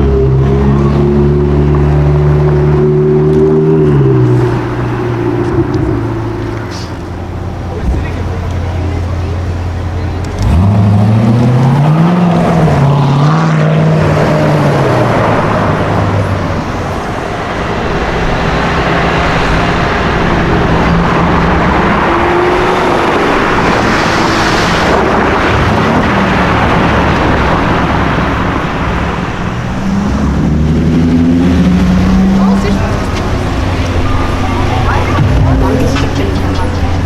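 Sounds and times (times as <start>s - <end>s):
sports car engines accelerating: 0.0s - 37.0s
traffic roar: 0.0s - 37.0s.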